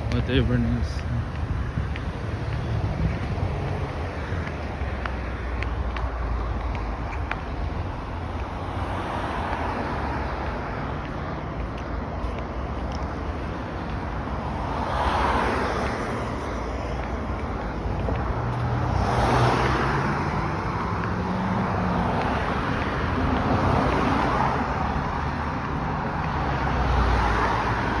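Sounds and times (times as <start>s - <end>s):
cars passing on wet road: 0.0s - 28.0s.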